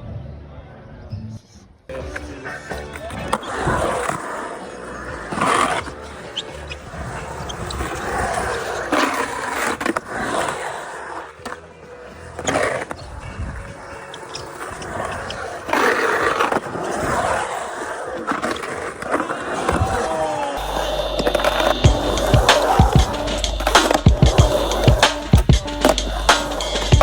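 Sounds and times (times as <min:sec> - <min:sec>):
skateboard wheels rolling: 0:01.9 - 0:27.0
skateboard clacks: 0:02.0 - 0:27.0.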